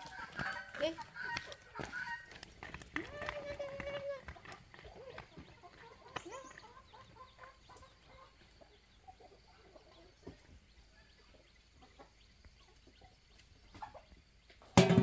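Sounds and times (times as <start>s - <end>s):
chickens clucking faintly: 0.0s - 15.0s.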